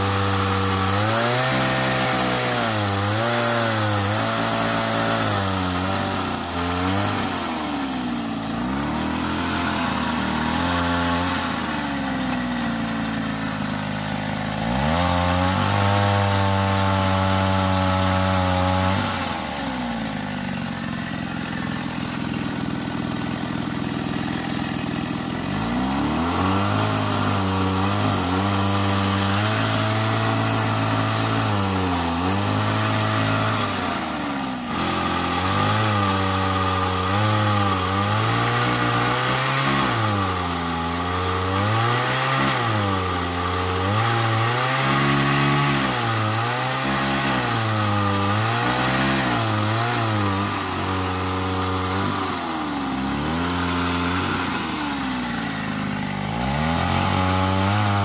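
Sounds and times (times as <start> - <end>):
hydraulic pump running: 0.0 - 41.5, 42.2 - 58.0.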